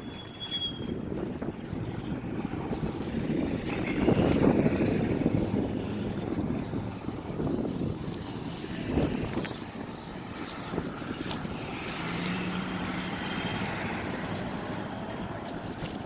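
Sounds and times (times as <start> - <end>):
road traffic: 0.0 - 16.0
wind buffeting microphone: 0.0 - 16.0.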